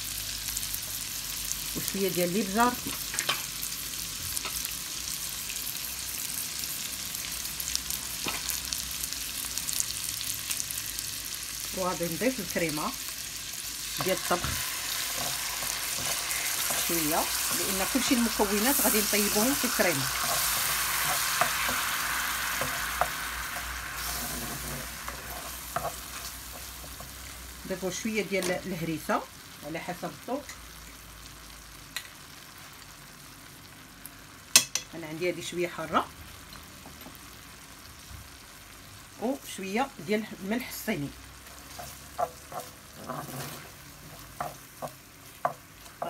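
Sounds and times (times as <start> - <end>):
shrimp sizzling in a frying pan: 0.0 - 46.0.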